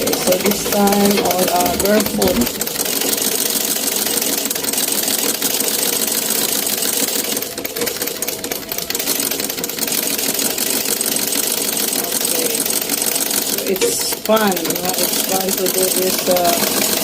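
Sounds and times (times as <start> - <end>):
treadle sewing machine ticking: 0.0 - 17.0.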